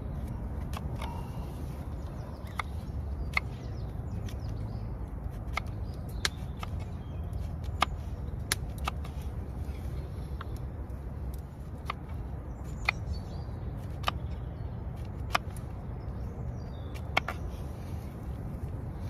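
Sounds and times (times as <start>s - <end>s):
sharp clicks and snaps: 0.0s - 17.5s
steady low rumble: 0.0s - 19.0s.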